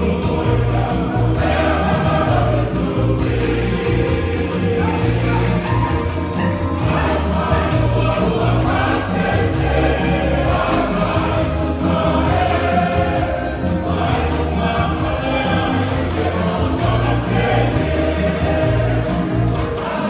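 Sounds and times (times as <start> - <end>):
choir singing a hymn: 0.0 - 20.0
instrumental backing with bass: 0.0 - 20.0.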